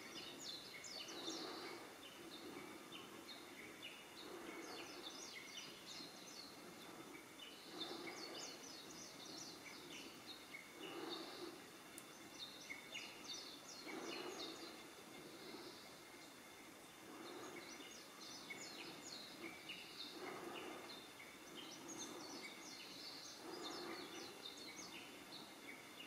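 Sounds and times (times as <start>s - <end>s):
low hazy sound: 0.0s - 26.0s
small birds chirping: 0.0s - 26.0s.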